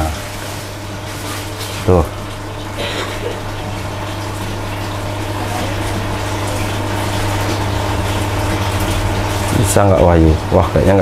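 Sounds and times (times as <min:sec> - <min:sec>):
aquarium filter pump hum: 0:00.0 - 0:11.0
water circulating: 0:00.0 - 0:11.0.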